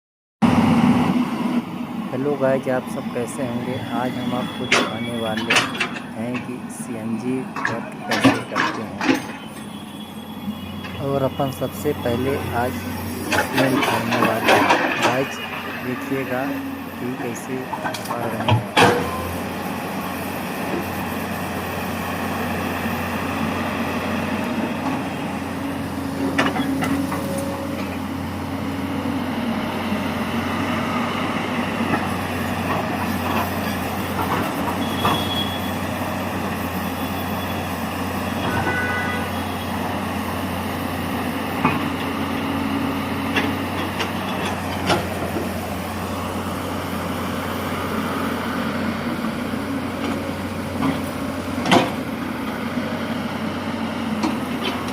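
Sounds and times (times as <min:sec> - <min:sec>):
heavy machinery engine running: 0:00.4 - 0:54.9.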